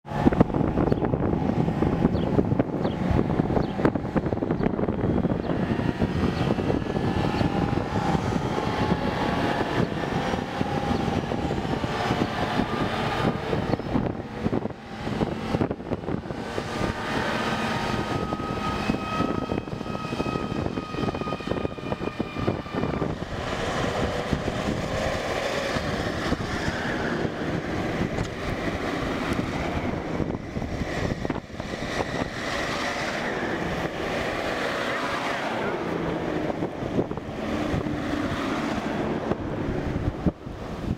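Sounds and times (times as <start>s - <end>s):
vehicle whine: 0.0s - 40.9s
heavy vehicles rumbling past: 0.1s - 40.9s.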